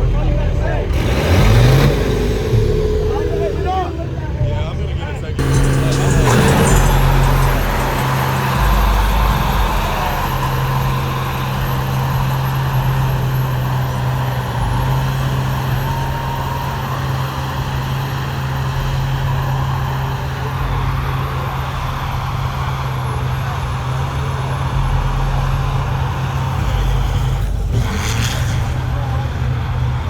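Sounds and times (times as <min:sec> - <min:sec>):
truck engine droning: 0:00.0 - 0:30.0.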